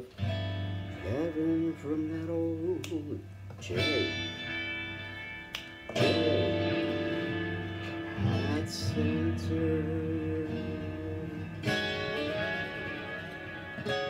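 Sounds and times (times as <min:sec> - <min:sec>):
guitar chords strummed: 0:00.0 - 0:14.0.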